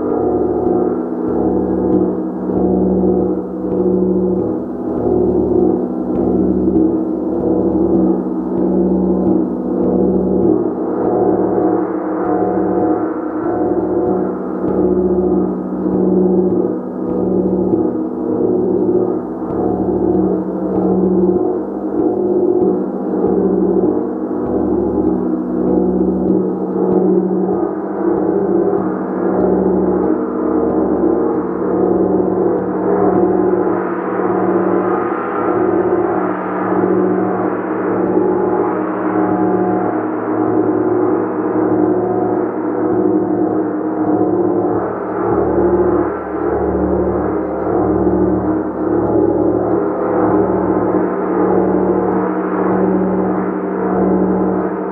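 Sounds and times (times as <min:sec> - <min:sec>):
gong played softly: 0:00.0 - 0:54.9.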